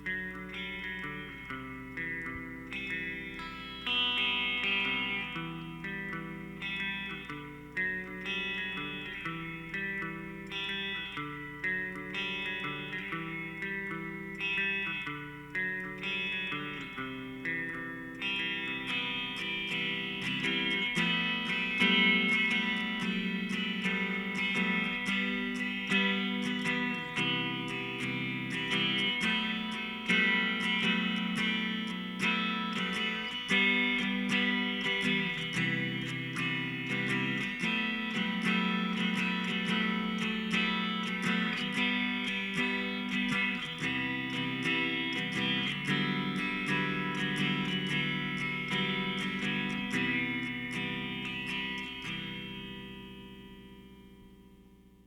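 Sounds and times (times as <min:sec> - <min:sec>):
plucked and strummed guitar: 0:00.0 - 0:54.9.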